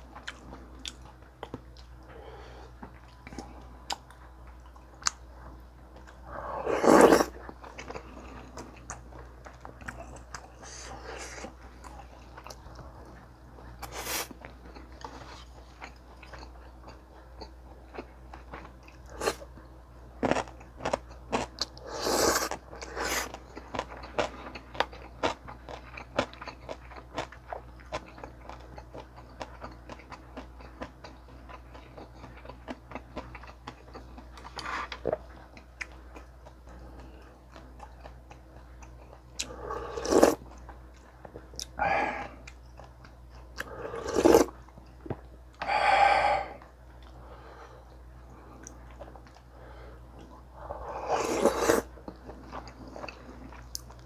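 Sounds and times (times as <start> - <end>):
person chewing and crunching: 2.7 - 19.5, 20.2 - 45.0, 50.1 - 54.0.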